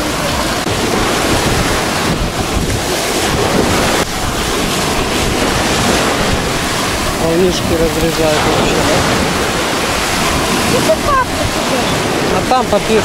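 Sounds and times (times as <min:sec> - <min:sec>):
waves washing over sand: 0:00.0 - 0:13.0
wind buffeting microphone: 0:00.0 - 0:13.0.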